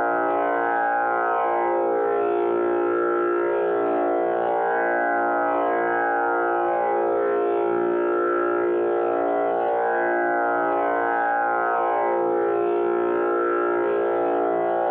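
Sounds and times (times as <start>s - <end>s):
tanpura drone: 0.0s - 14.9s.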